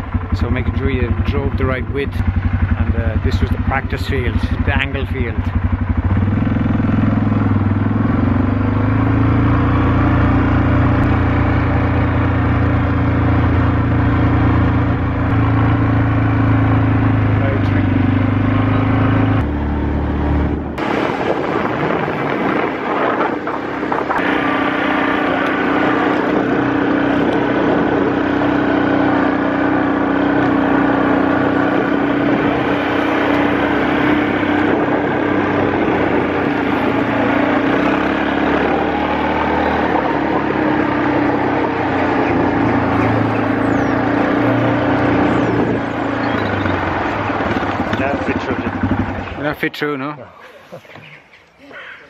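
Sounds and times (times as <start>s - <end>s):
steady engine drone: 0.0s - 51.3s.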